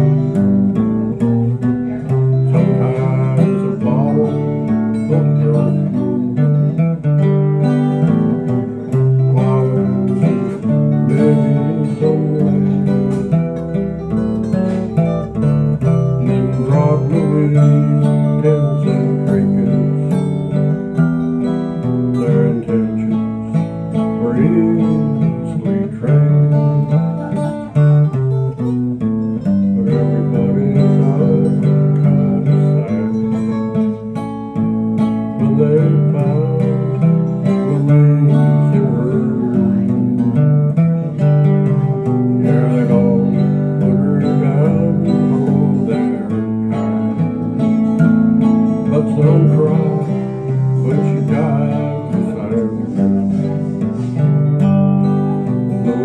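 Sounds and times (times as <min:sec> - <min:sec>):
acoustic guitar picking notes: 0:00.0 - 0:56.0
acoustic guitar strumming chords: 0:00.0 - 0:56.0.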